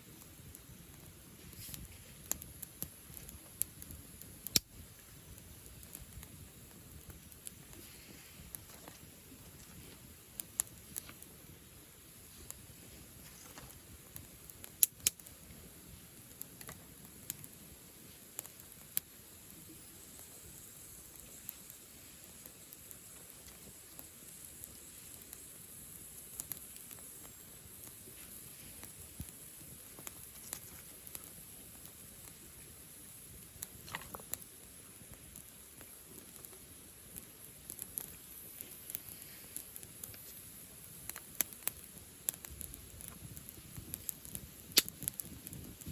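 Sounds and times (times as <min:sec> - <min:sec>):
bonfire crackling and popping: 0:00.0 - 0:45.9
faint steady hiss: 0:00.0 - 0:45.9
flame rustling: 0:00.0 - 0:45.9.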